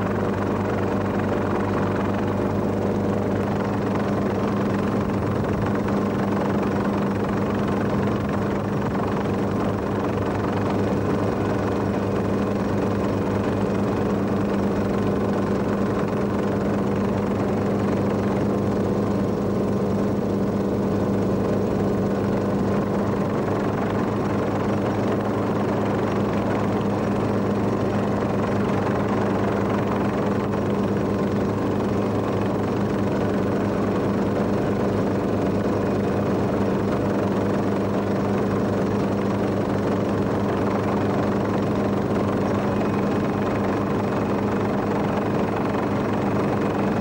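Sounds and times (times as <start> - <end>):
helicopter engine and rotor drone: 0.0 - 47.0.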